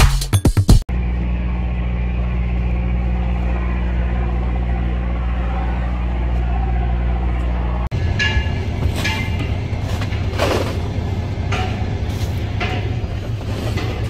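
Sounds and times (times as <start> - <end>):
boat engine droning: 0.9 - 14.0.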